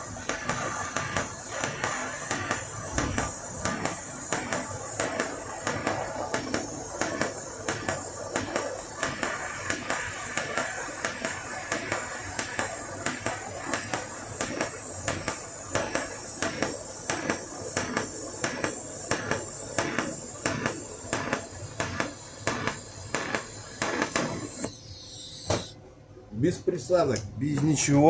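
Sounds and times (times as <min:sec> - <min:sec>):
welding arc hissing and crackling: 0:00.0 - 0:25.8, 0:26.4 - 0:28.0.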